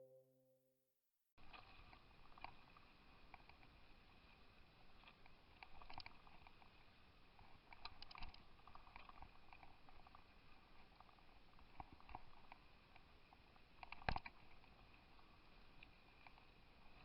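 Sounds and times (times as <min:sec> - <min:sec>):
faint irregular clicks: 0:01.4 - 0:17.0.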